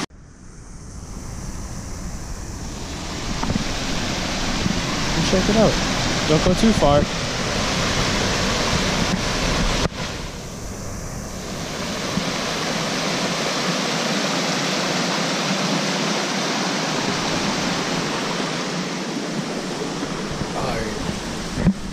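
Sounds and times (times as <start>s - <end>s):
water rushing down waterfall: 2.7s - 21.9s.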